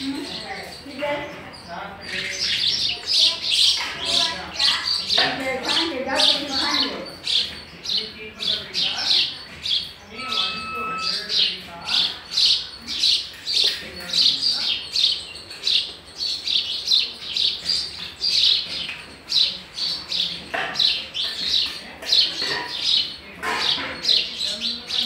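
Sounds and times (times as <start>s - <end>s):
sparrow chirping: 0.0s - 25.0s.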